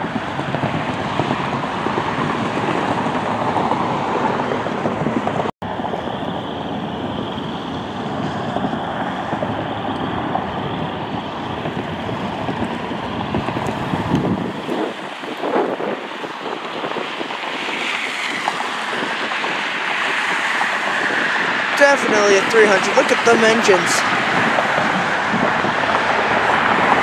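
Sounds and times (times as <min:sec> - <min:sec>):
road traffic rushing: 0:00.0 - 0:27.0
wind on microphone: 0:00.0 - 0:27.0.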